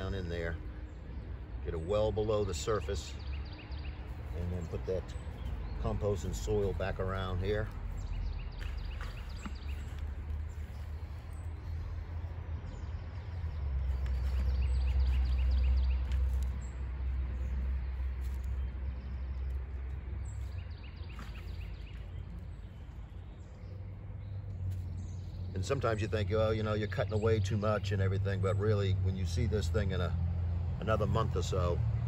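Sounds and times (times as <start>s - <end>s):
birds chirping trills: 0.0s - 32.0s.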